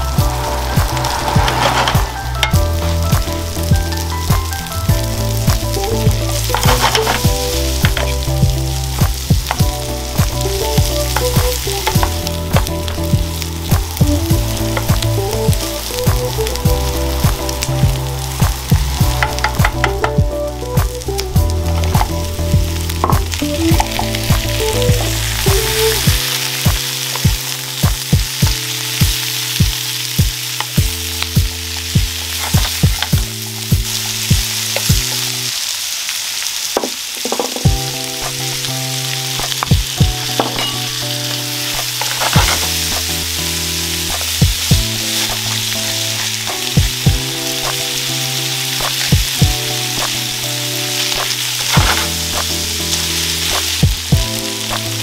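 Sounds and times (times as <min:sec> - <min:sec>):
vegetables sizzling in frying pan: 0:00.0 - 0:55.0.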